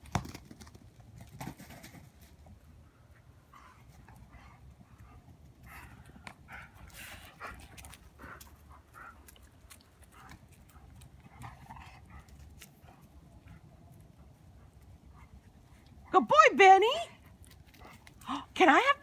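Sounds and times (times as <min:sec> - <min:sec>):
dogs panting: 0:02.8 - 0:16.1, 0:16.9 - 0:19.0.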